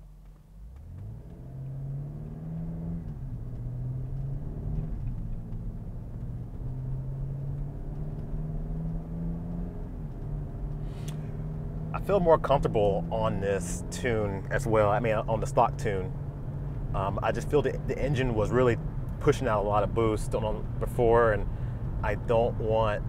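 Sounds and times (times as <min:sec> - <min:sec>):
car engine under load: 0:00.0 - 0:23.0
tyre noise: 0:00.2 - 0:21.4.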